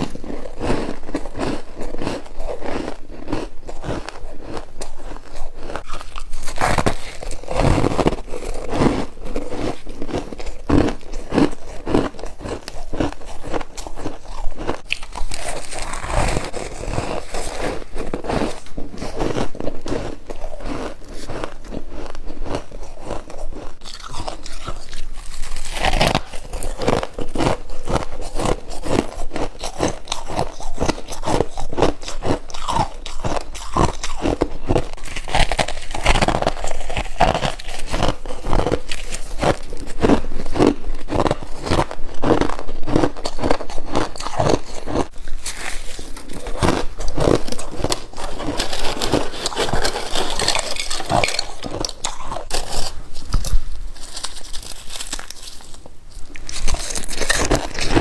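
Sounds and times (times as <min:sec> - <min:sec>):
frost being chewed crunching: 0:00.0 - 0:58.0.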